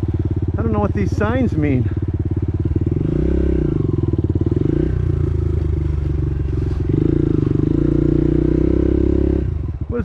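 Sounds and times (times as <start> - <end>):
dirt bike engine revving: 0.0 - 9.7.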